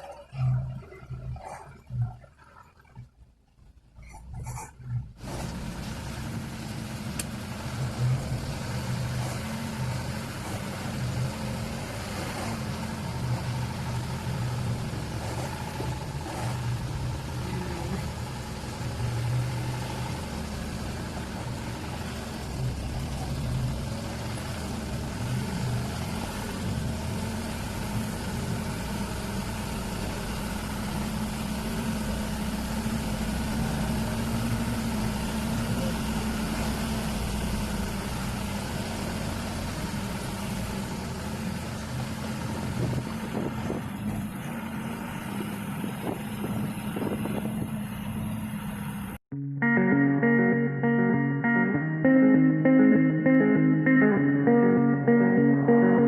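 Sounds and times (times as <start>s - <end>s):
truck engine running: 4.1s - 49.2s.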